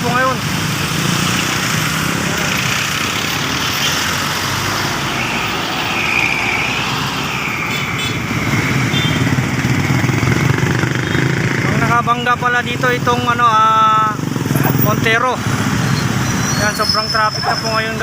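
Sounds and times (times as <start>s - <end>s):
street traffic engines rumbling: 0.0s - 18.0s.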